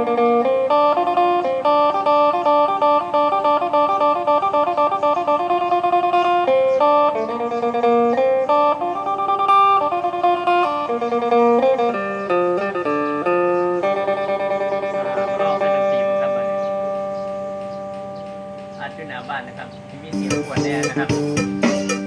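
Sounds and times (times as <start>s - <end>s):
amplified plucked lute melody: 0.0s - 22.0s.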